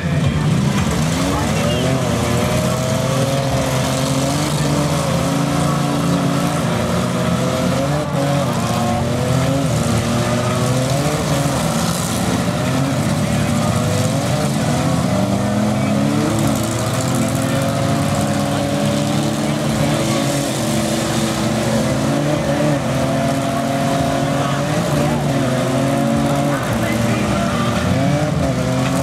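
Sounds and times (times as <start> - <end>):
car engines revving hard: 0.0 - 29.0.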